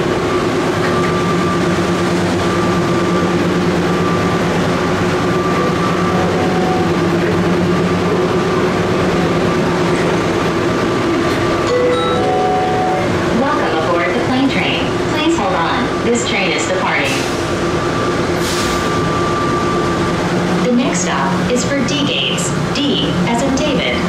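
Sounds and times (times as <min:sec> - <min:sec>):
train running noise hum: 0:00.0 - 0:24.0.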